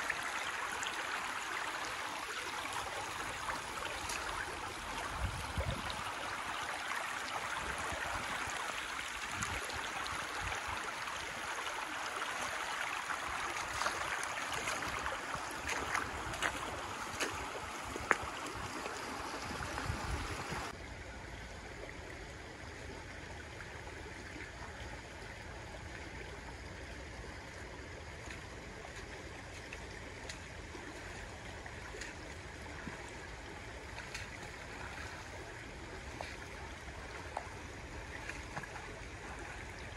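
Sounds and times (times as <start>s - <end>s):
stream running over pebbles: 0.0s - 39.9s.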